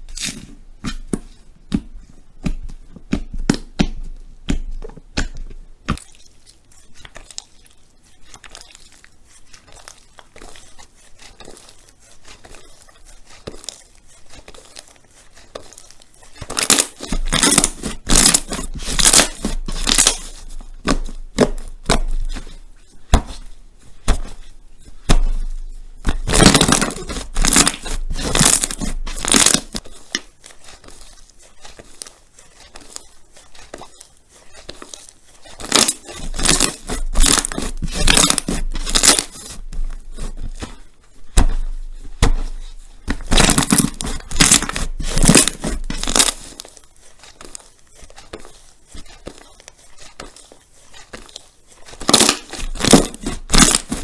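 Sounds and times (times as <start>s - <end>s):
crunchy slime crackling and popping: 0.0s - 54.0s.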